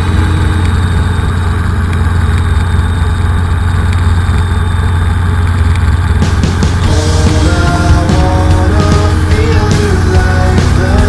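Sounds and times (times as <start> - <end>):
helicopter engine and rotors drone: 0.0 - 11.0.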